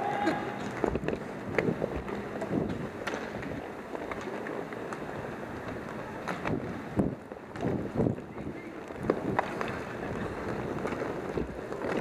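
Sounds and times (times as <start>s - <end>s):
hockey sticks and puck clacking: 0.0s - 12.0s
inline skate wheels rushing: 0.0s - 12.0s.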